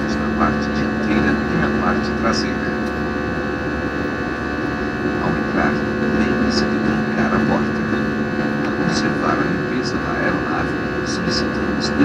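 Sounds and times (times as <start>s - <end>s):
airplane cabin engine drone: 0.0s - 12.0s.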